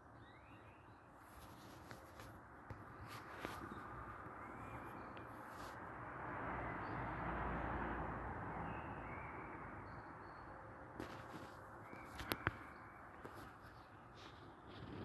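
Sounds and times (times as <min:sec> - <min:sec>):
noisy outdoor background: 0:00.0 - 0:15.0.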